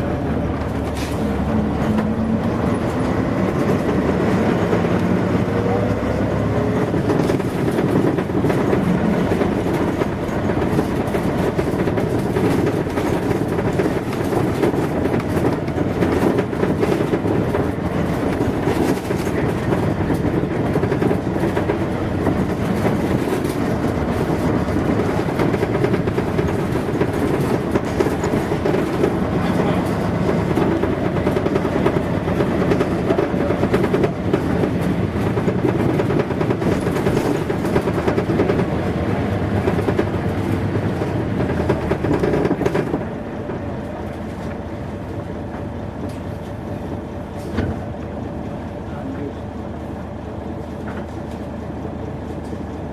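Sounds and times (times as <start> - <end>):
bus diesel engine running: 0.0 - 52.9
road noise: 0.0 - 52.9.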